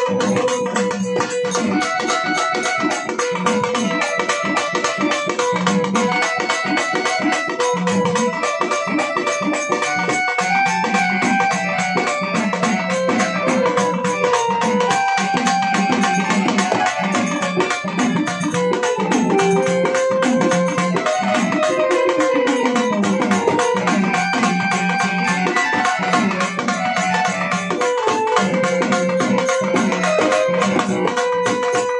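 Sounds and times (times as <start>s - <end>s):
fast hand drumming on frame drum: 0.0s - 31.9s
reedy keyboard melody: 0.0s - 31.9s.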